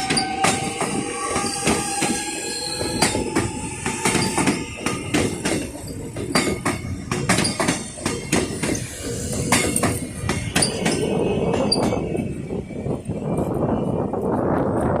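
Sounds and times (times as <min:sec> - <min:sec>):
train wheels clattering over rails: 0:00.0 - 0:14.9
train rumble: 0:00.0 - 0:15.0.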